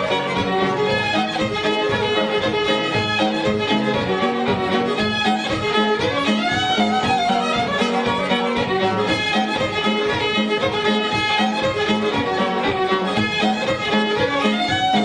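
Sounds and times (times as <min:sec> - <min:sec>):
fiddle playing lively tune: 0:00.0 - 0:15.0
rhythmic accompaniment: 0:00.0 - 0:15.0.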